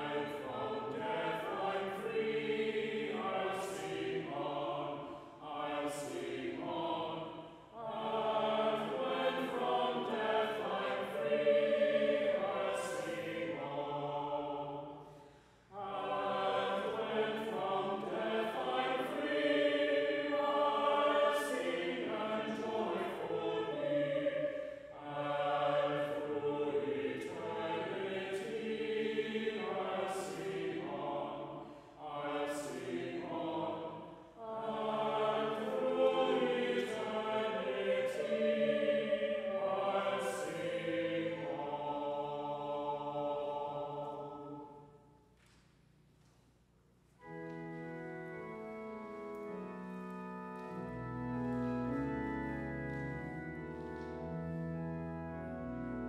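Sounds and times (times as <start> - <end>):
mixed choir singing: 0.0 - 45.0.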